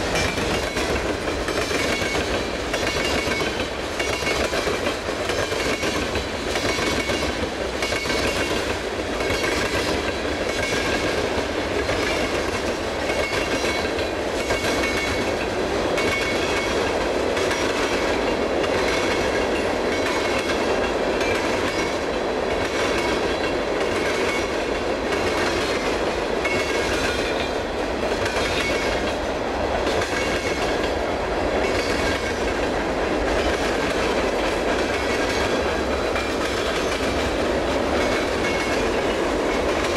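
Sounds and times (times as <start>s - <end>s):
train rumble: 0.0s - 39.9s
train wheels clicking over rail joints: 0.0s - 39.9s.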